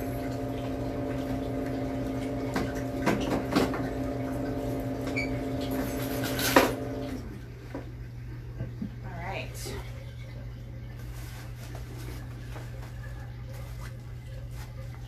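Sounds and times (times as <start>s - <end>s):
filter pump humming: 0.0s - 15.0s.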